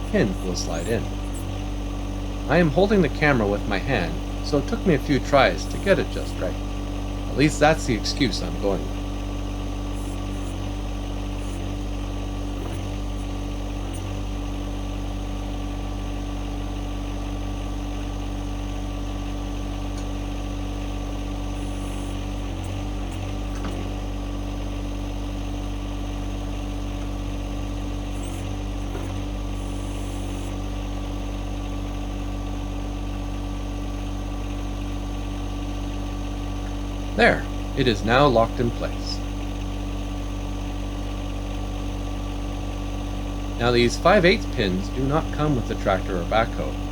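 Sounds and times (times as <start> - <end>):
diesel tractor engine idling: 0.0 - 46.9.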